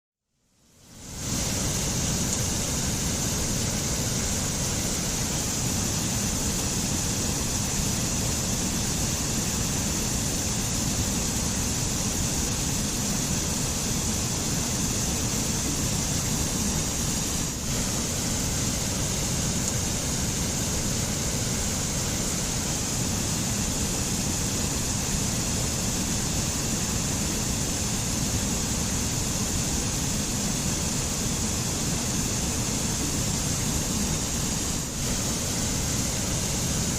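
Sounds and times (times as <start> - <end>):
stream rushing over rocks: 1.0 - 36.9.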